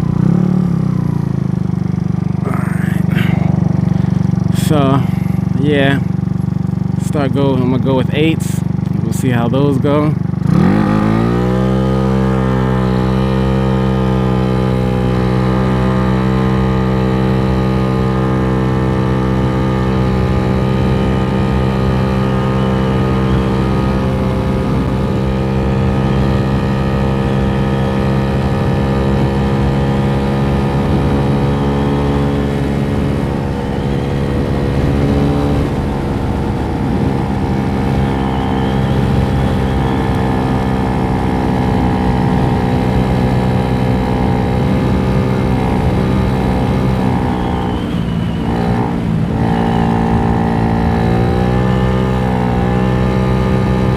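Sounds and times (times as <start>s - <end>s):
scooter engine at high revs: 0.0s - 53.9s.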